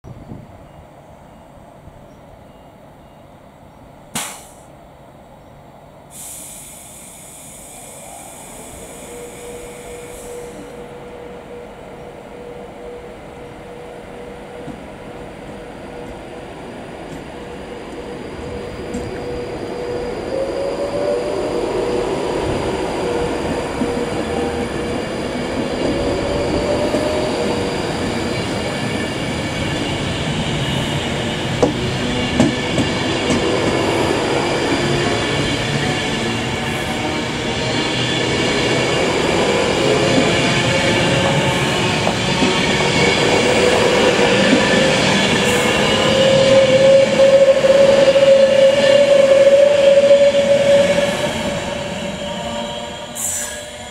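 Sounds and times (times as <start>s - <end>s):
train rolling past rumble: 0.0s - 53.9s.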